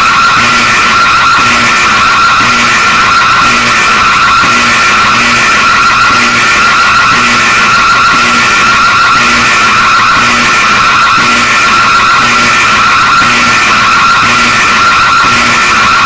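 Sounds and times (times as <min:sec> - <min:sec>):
harsh distorted alarm tone: 0:00.0 - 0:16.0.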